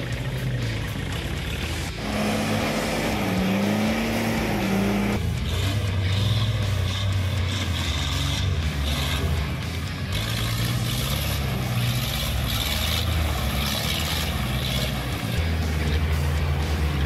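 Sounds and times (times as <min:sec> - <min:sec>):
engine revving in mud: 0:00.0 - 0:17.0
lower engine note: 0:00.0 - 0:17.0.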